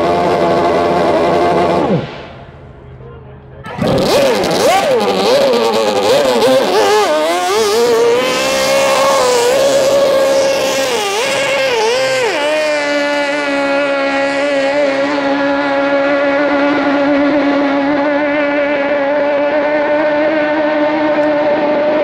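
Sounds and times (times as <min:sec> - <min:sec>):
outboard engine howling: 0:00.0 - 0:22.0.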